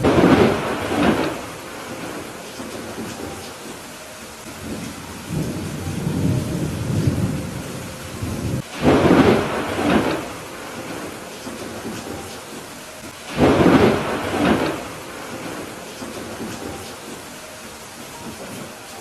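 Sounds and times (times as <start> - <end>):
thunder rumbling and crashing: 0.0 - 3.4, 4.6 - 12.6, 13.2 - 17.2
steady rain: 0.0 - 19.0.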